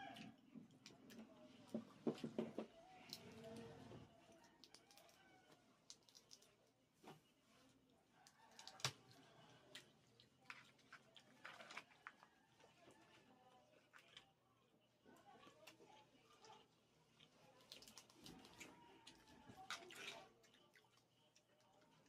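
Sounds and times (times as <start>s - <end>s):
quiet chewing: 0.0s - 22.0s.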